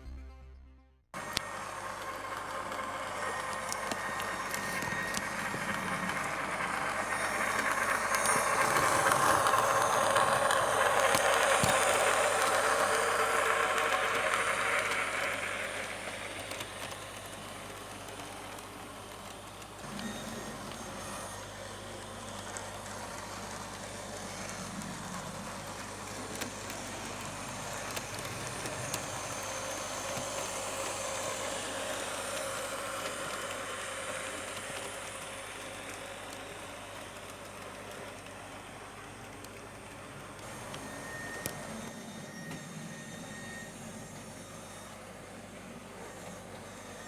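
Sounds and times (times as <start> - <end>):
model locomotive engine sound: 1.2 - 47.0.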